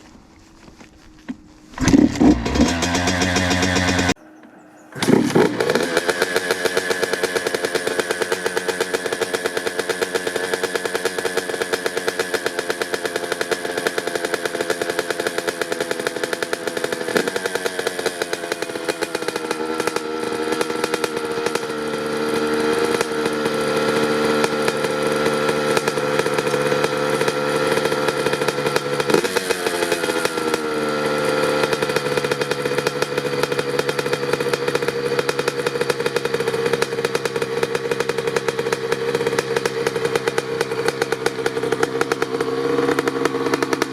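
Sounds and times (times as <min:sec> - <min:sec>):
dirt bike engine idling: 0:00.1 - 0:43.9.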